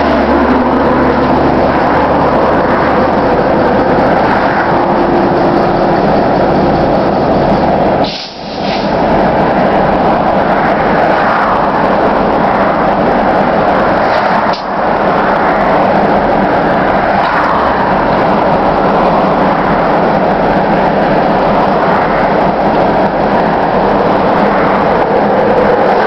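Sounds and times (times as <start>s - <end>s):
diesel locomotive engine drone: 0.0s - 26.0s.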